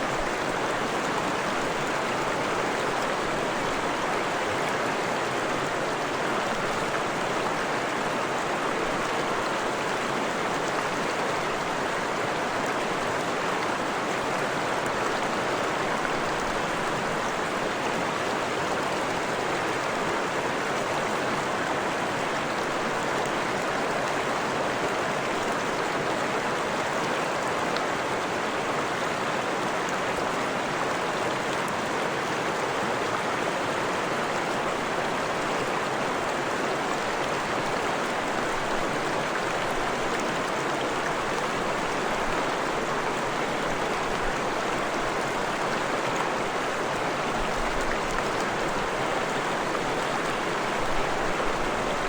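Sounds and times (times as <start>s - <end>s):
stream rushing and splashing: 0.0s - 52.0s.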